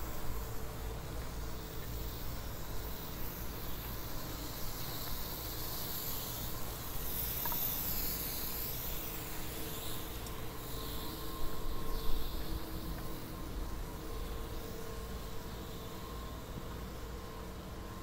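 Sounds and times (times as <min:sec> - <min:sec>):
road traffic hiss and rumble: 0:00.0 - 0:18.0.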